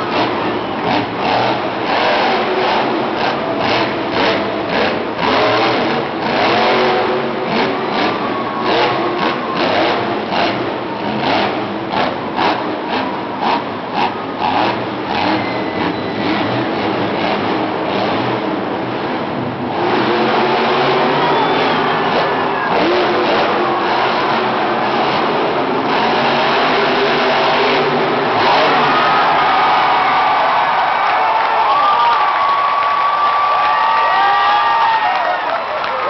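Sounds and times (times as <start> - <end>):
truck engine revving: 0.0 - 31.2.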